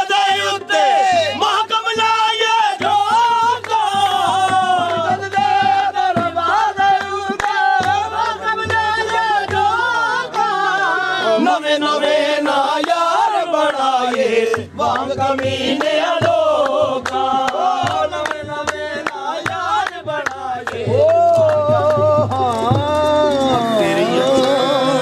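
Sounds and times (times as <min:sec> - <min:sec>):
men singing a chant: 0:00.0 - 0:25.0
steady drum beat: 0:00.0 - 0:25.0.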